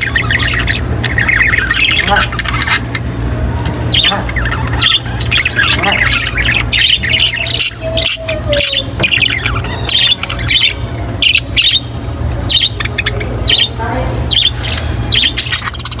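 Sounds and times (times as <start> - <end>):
budgerigars chirping and squawking: 0.0 - 16.0
steady low hum: 0.0 - 16.0.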